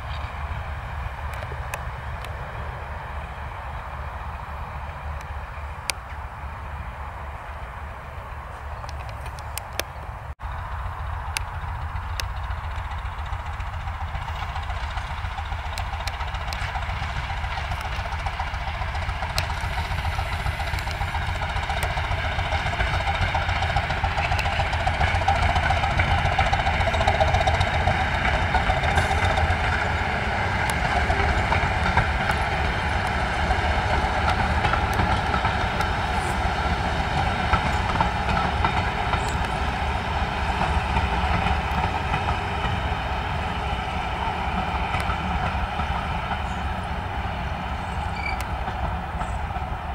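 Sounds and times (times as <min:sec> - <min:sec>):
diesel train engine hum: 0:00.0 - 0:49.9
wheels rumbling on rails: 0:00.0 - 0:49.9.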